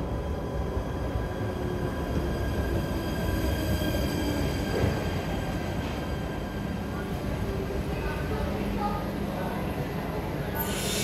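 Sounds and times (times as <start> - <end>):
train wheels rumbling on rails: 0.0 - 9.4.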